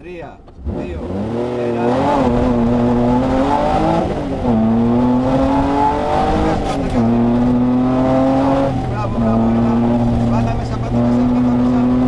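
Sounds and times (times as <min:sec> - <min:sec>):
car engine accelerating: 0:00.4 - 0:12.0.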